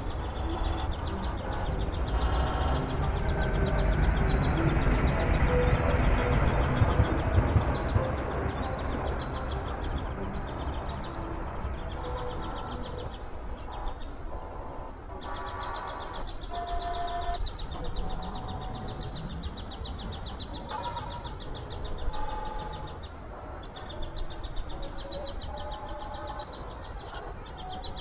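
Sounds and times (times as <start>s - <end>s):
birds calling: 0.0s - 28.0s
steady low rumble: 0.0s - 28.0s.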